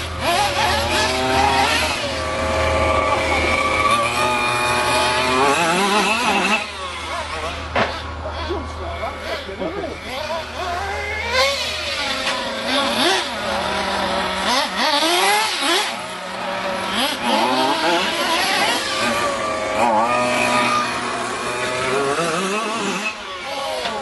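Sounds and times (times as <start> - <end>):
small two-stroke engines revving: 0.0 - 24.0.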